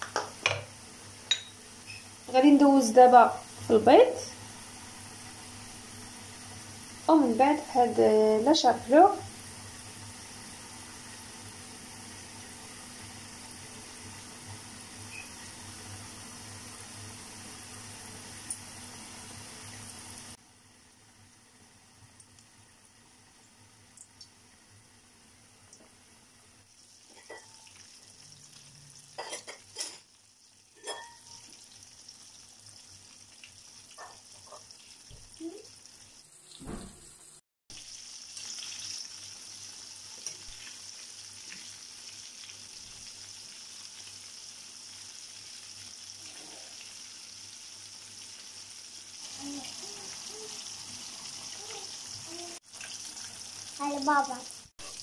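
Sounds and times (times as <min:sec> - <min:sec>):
chicken sizzling in hot oil: 0:00.0 - 0:55.0.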